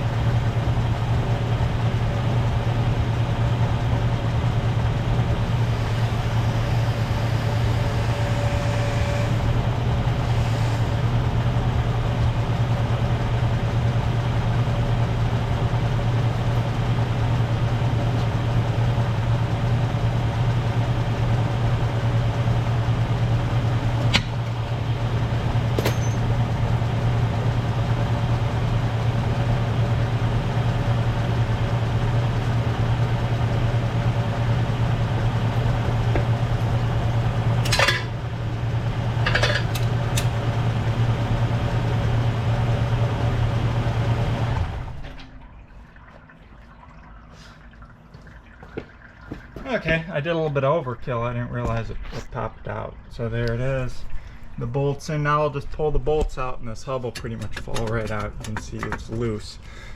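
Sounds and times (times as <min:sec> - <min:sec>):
car engine idling: 0:00.0 - 0:46.1, 0:47.3 - 0:59.9.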